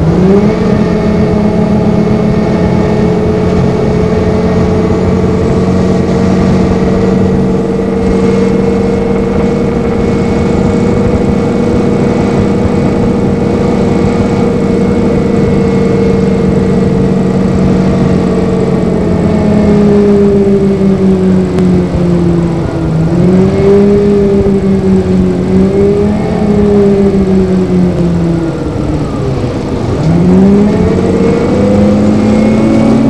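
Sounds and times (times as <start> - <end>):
cooling fan whining: 0.0 - 33.0
faint diesel engine: 0.0 - 33.0.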